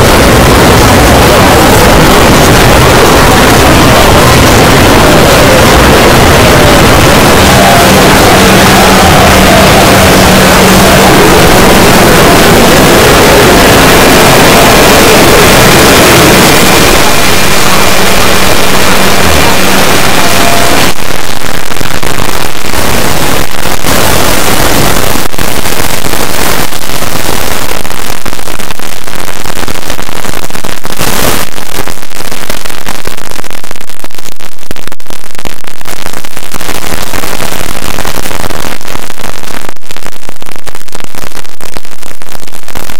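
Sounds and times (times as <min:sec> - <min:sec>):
harsh distorted crackling noise: 0:00.0 - 0:42.9.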